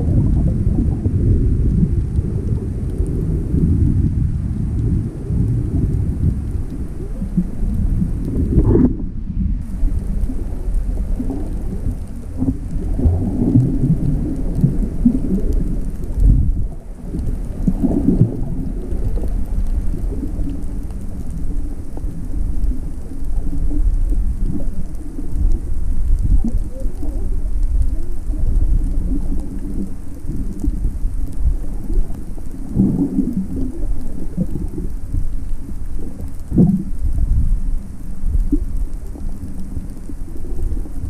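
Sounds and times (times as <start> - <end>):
muffled underwater rumble: 0.0 - 41.0.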